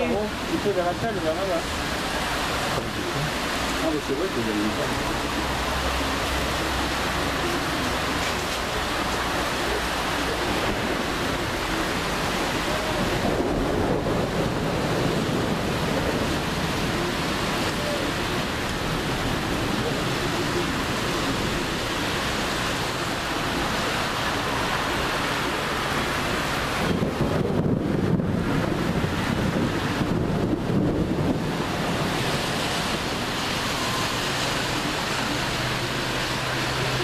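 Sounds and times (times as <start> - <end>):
heavy rain: 0.0 - 37.0
wind: 0.0 - 37.0.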